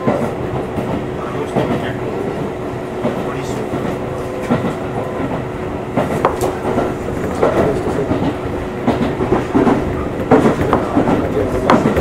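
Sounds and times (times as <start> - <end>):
train rumble: 0.0 - 12.0
wheels clacking over rail joints: 0.0 - 12.0.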